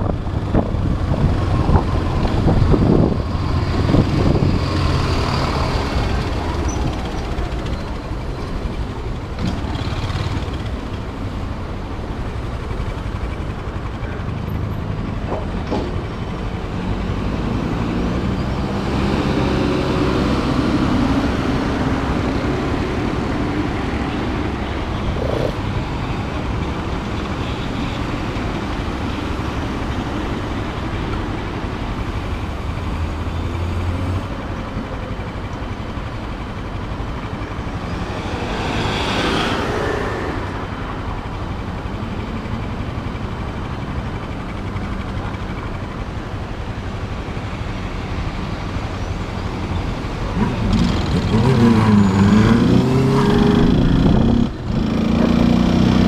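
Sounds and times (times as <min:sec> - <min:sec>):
traffic with trucks and buses: 0:00.0 - 0:56.0.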